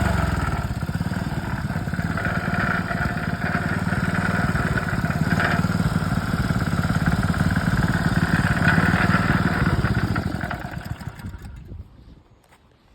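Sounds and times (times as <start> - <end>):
petrol engine pump running: 0.0 - 11.7.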